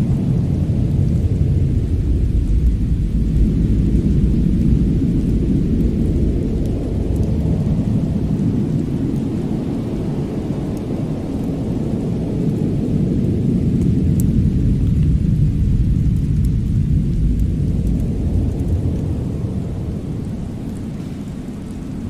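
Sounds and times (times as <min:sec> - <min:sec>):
faint fire crackles: 0:00.0 - 0:22.0
fireplace fire rumbling: 0:00.0 - 0:22.0
winter wind: 0:00.0 - 0:22.0.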